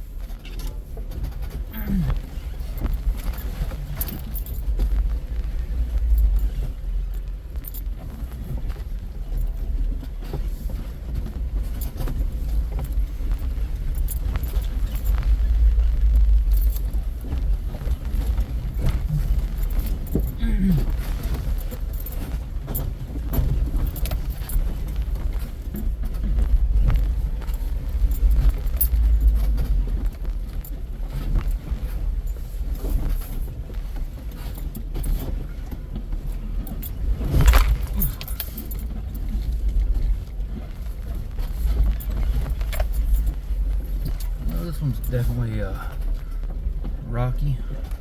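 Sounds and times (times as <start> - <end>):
engine and drivetrain rumble: 0.0 - 48.0
rattling and clinking: 0.4 - 46.8.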